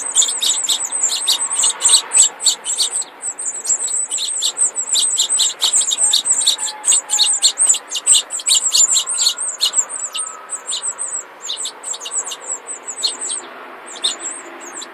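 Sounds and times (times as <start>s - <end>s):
nestlings begging peeps: 0.0s - 14.9s.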